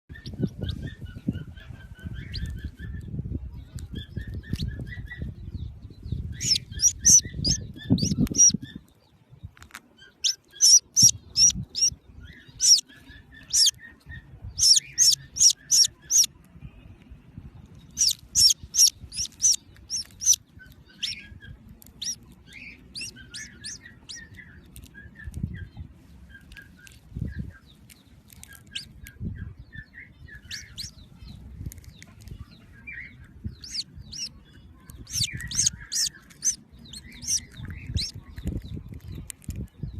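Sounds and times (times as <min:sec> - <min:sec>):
baby bird chirping: 0:00.1 - 0:08.9, 0:10.0 - 0:16.4, 0:17.8 - 0:39.9.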